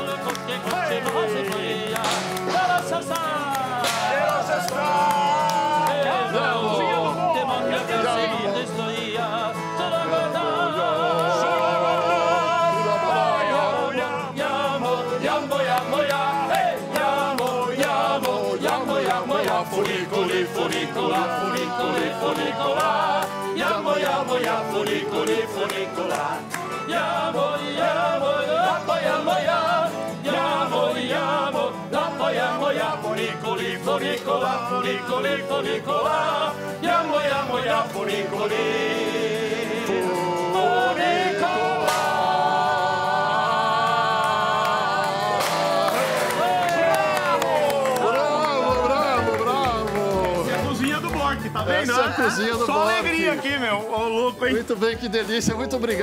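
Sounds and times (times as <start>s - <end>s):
man singing: 0.0s - 43.2s, 48.0s - 55.0s
accordion: 0.0s - 56.0s
acoustic guitar strumming: 0.0s - 56.0s.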